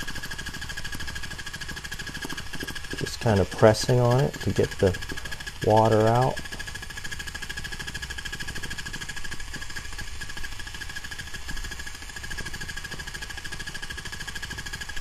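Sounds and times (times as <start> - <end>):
handheld washer buzzing: 0.0 - 14.9.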